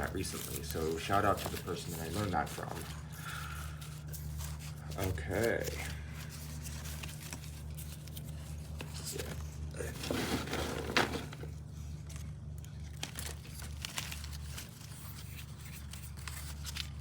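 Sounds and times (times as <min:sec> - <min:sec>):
potting mix crunching and rustling: 0:00.0 - 0:12.2, 0:12.8 - 0:17.0.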